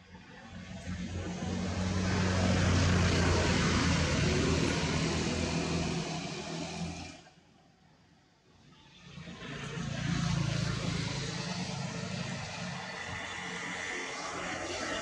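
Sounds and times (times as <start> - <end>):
motor engine passing by: 0.0 - 7.6, 8.6 - 15.0.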